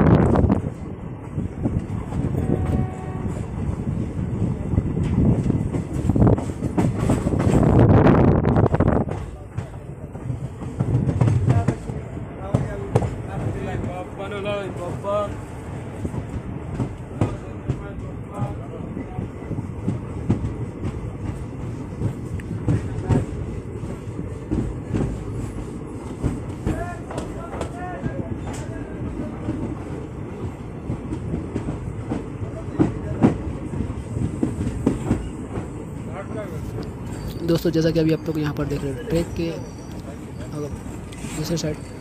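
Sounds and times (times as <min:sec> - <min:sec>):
train rumbling along track: 0:00.0 - 0:42.0.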